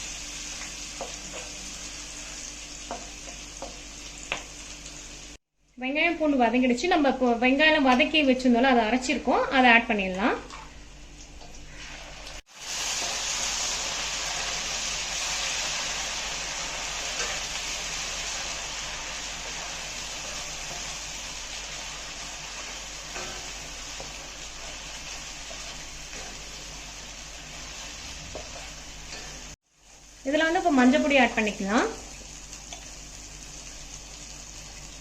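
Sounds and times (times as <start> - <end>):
onion paste sizzling in oil: 0.0 - 5.5, 11.0 - 35.0.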